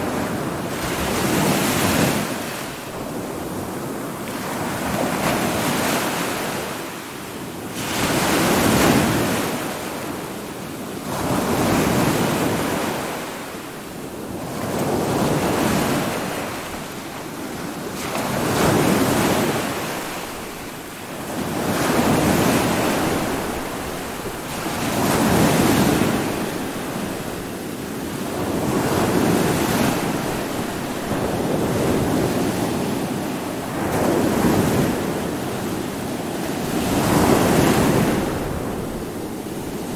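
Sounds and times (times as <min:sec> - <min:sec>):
heavy waves breaking: 0:00.0 - 0:39.9
wind: 0:00.0 - 0:39.9.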